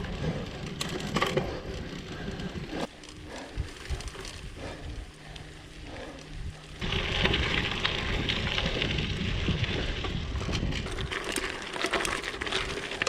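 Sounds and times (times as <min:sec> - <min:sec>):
bike tyres crunching on gravel: 0:00.0 - 0:13.0.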